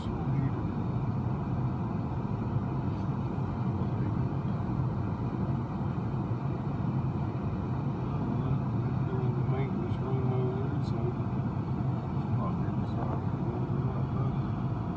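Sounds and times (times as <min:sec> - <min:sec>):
car engine and road noise: 0:00.0 - 0:14.9.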